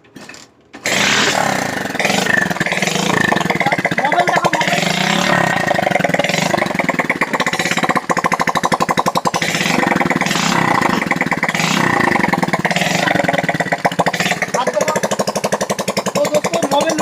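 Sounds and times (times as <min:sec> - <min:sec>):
motorcycle engine without silencer: 0:00.0 - 0:17.0.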